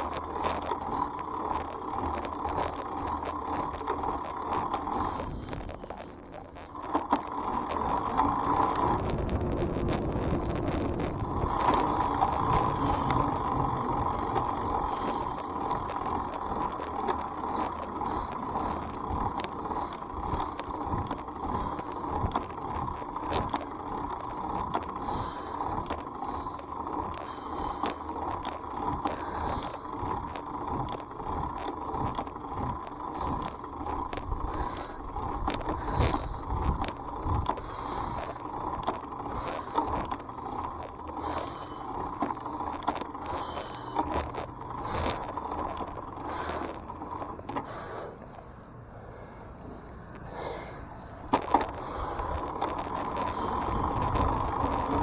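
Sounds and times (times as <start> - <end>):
bicycle rattles and clicks: 0.0 - 55.0
bicycle riding whine and rumble: 0.0 - 55.0.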